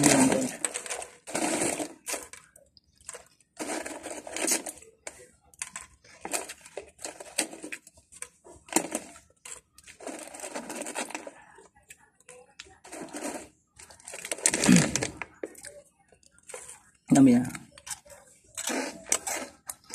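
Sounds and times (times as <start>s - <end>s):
plastic snack bag crinkling: 0.0s - 19.9s.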